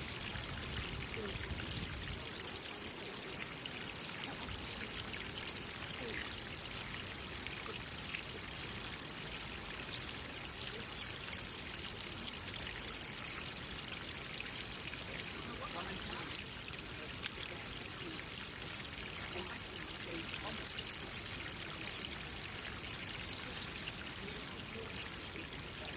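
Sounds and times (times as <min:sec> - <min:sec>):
stream pouring into a pond: 0:00.0 - 0:25.9.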